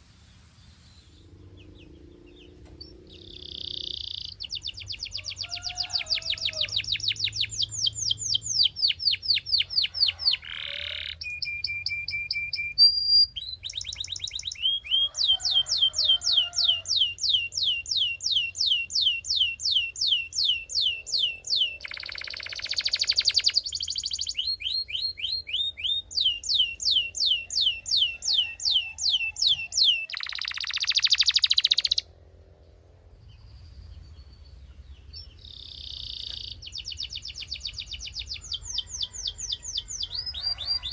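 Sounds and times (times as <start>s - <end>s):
canary singing: 1.0s - 32.1s, 34.7s - 40.9s.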